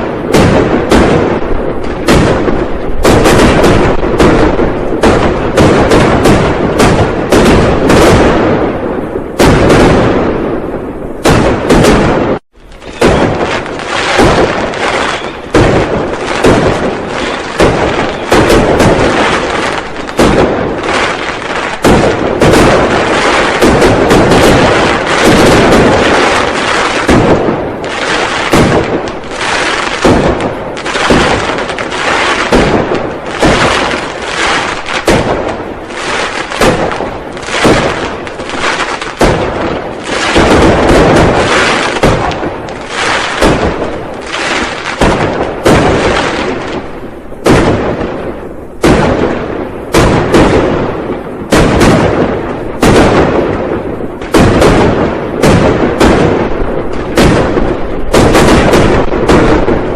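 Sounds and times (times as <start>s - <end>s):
firecrackers and fireworks exploding: 0.0s - 59.9s.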